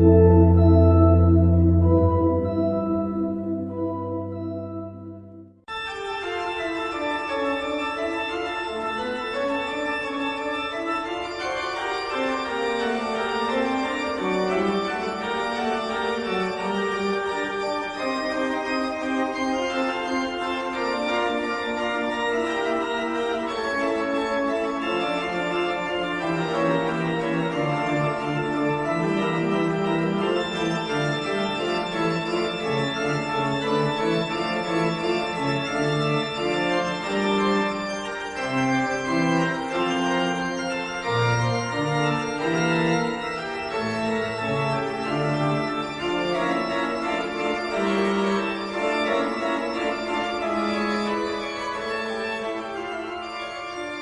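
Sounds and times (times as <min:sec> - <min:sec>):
organ music: 0:00.0 - 0:54.0.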